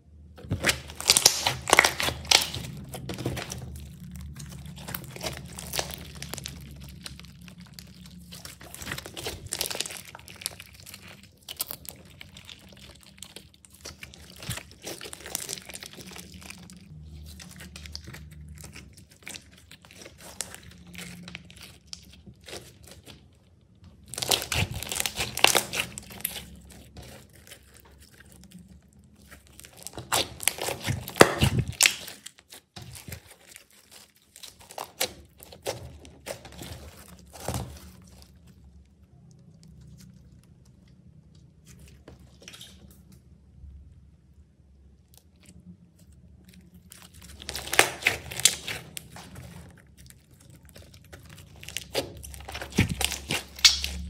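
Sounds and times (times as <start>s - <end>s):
slime squished by hand: 0.3s - 43.3s, 44.9s - 54.0s.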